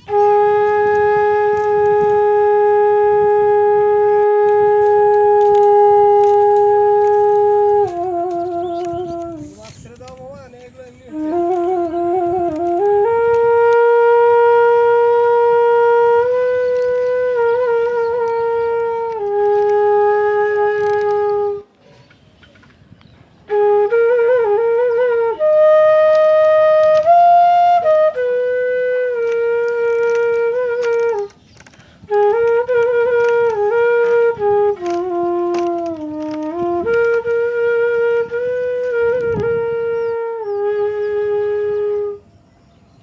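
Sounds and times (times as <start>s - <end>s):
wind instrument melody: 0.0s - 21.8s, 23.2s - 43.0s.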